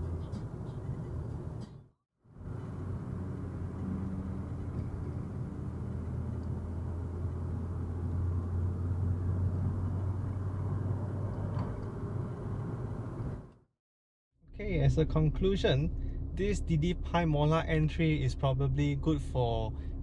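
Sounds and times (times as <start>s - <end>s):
car cabin road and engine drone: 0.0s - 13.7s, 14.5s - 20.0s.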